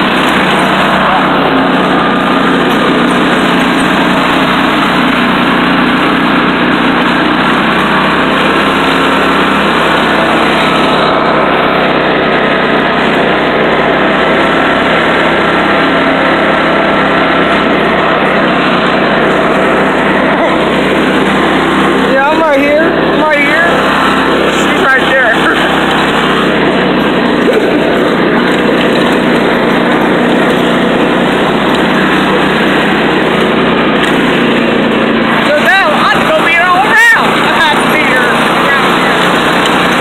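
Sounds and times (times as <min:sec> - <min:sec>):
riding mower engine running: 0:00.0 - 0:40.0.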